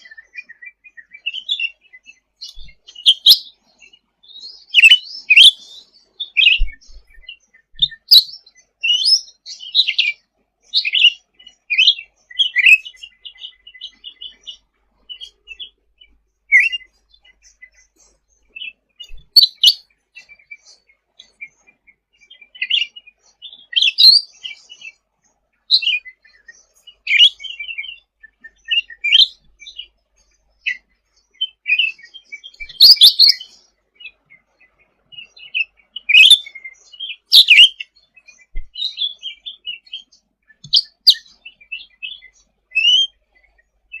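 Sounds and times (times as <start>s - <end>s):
bird chirping and twittering: 0.0s - 44.0s.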